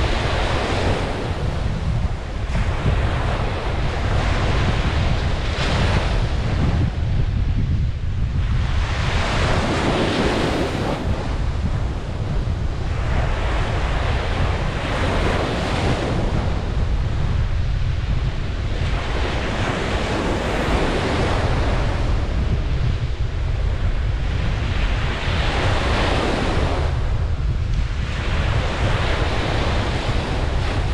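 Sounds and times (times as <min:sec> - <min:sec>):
ocean surf breaking on beach: 0:00.0 - 0:30.9.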